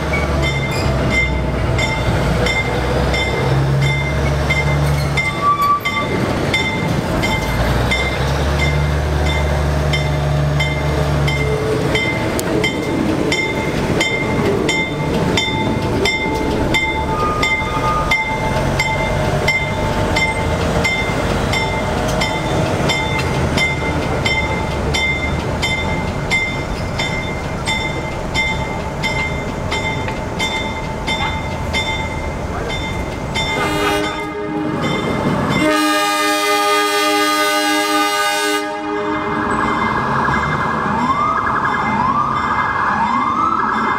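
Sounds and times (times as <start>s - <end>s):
locomotive bell ringing: 0.0s - 36.3s, 38.9s - 42.8s
diesel locomotive rumbling: 0.0s - 43.9s.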